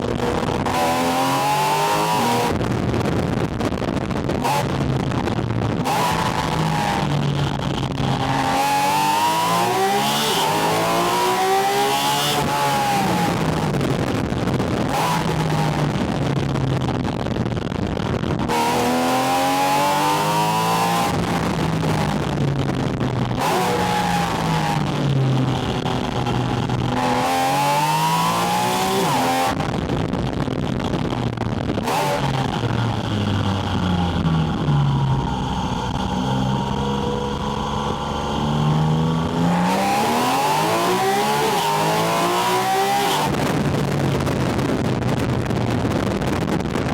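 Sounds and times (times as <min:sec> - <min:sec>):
car engine accelerating: 0:00.0 - 0:46.9
wind noise: 0:00.0 - 0:46.9.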